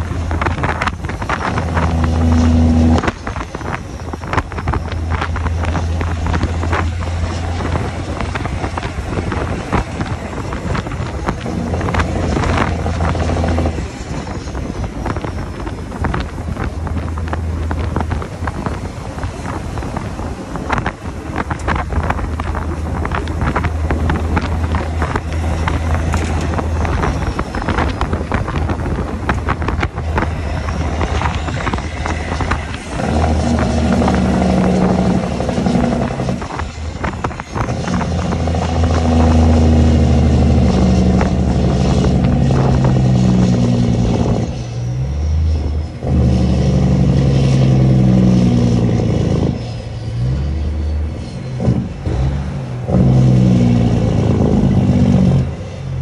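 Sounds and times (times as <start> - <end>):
diesel truck engine running: 0.0 - 56.0
wind rushing over microphone: 0.0 - 56.0.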